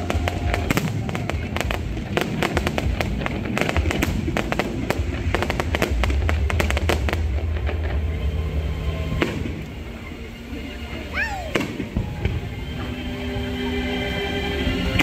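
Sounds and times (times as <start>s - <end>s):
fireworks crackling bangs: 0.0s - 13.0s
deep rumble: 0.0s - 15.0s.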